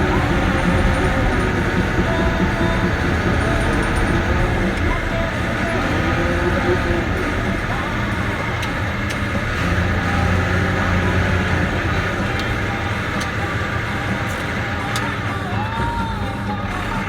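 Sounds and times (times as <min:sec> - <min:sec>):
bulldozer diesel engine running: 0:00.0 - 0:17.0
sharp clicks: 0:00.0 - 0:17.0.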